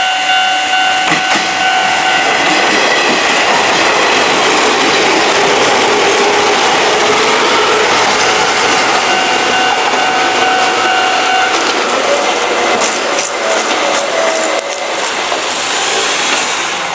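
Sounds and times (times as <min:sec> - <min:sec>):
train wheels running on rails: 0:00.0 - 0:16.9.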